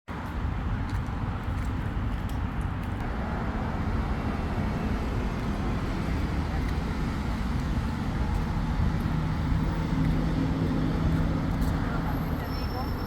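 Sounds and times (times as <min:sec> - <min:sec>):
low rumble of traffic: 0:00.1 - 0:13.0.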